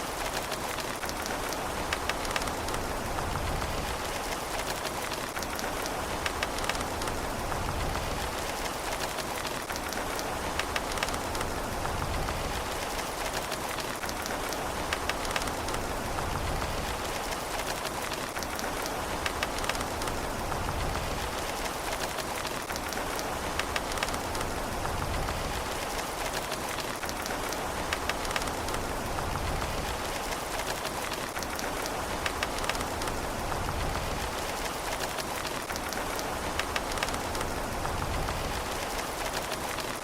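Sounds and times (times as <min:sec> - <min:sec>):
raindrops ticking: 0:00.0 - 0:40.0
steady rain hiss: 0:00.0 - 0:40.0.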